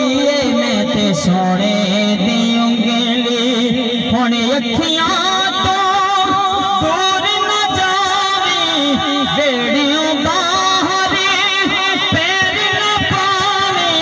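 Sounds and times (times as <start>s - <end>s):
man singing through loudspeaker: 0.0s - 14.0s.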